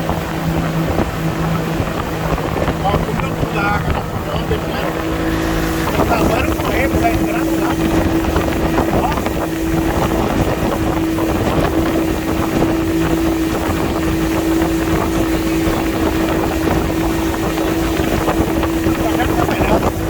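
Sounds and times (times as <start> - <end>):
motorboat engine: 0.0 - 20.0
wind noise on microphone: 0.0 - 20.0.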